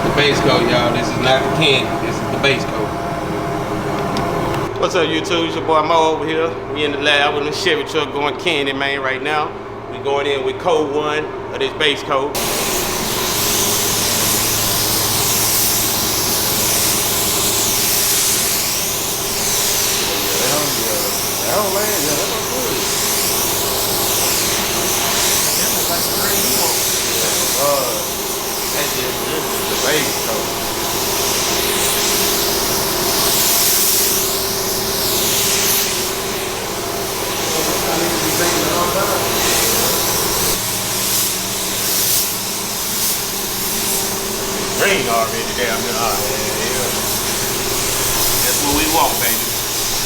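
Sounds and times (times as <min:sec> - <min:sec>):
paint spray gun hissing: 0:00.0 - 0:04.7, 0:12.4 - 0:50.0
steady low hum: 0:00.0 - 0:50.0.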